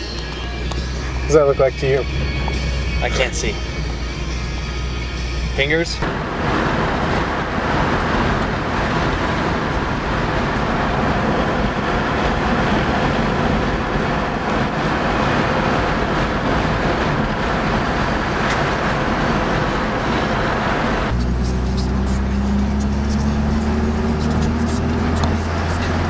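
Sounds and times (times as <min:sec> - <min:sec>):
car road noise: 0:00.0 - 0:26.0.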